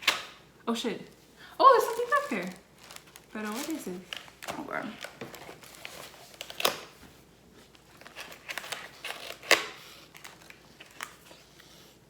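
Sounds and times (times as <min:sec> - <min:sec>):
plastic and card rustling: 0:01.7 - 0:11.7.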